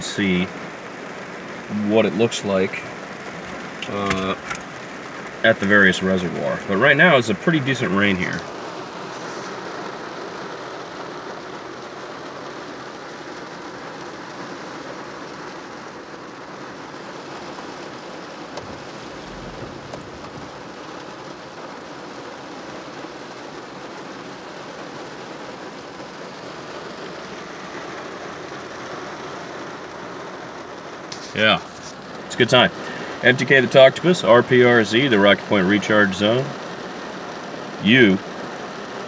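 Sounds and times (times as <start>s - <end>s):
heavy rain on car roof: 0.0s - 39.0s.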